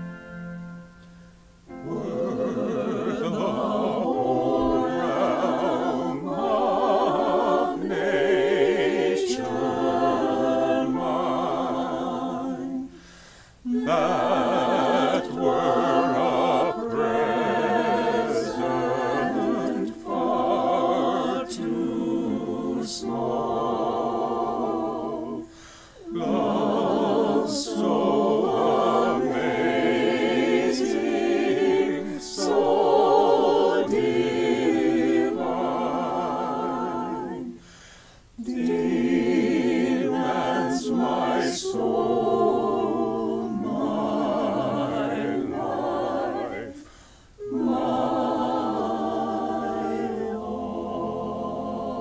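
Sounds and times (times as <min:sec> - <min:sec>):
choir singing a hymn: 0:01.6 - 0:52.0.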